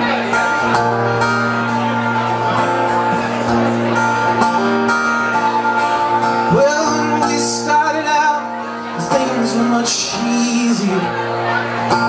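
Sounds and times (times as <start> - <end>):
acoustic guitar: 0.0 - 12.0
electric guitar bending notes: 0.0 - 12.0.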